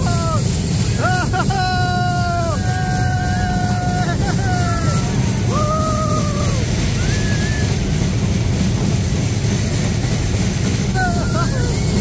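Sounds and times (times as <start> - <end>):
fairground rumble: 0.0 - 12.0.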